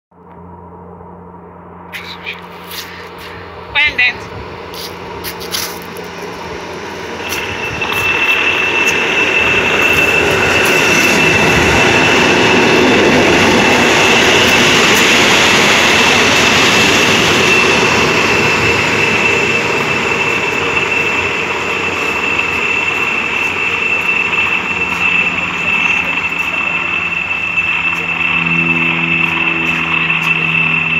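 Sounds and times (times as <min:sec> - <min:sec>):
high-pitched whine: 0:00.2 - 0:30.9
train wheels rumbling on rails: 0:04.3 - 0:30.9.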